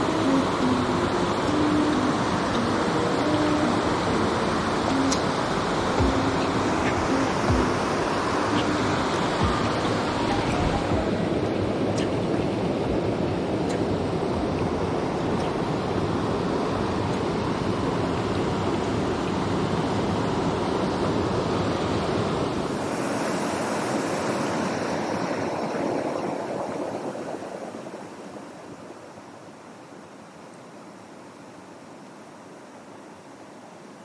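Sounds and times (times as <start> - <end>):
mountain stream rushing water: 0.0 - 34.0.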